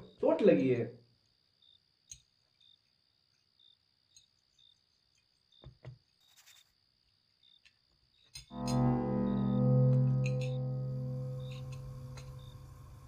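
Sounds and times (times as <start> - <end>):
faint crickets chirping: 0.0 - 13.0.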